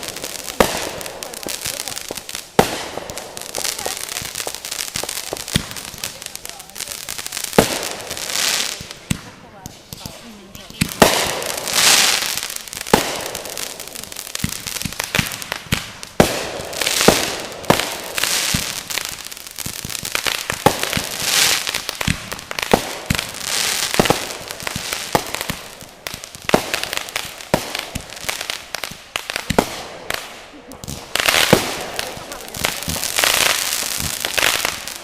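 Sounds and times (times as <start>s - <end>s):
crackling fireworks hiss: 0.0s - 35.0s
fireworks bangs: 0.0s - 35.0s.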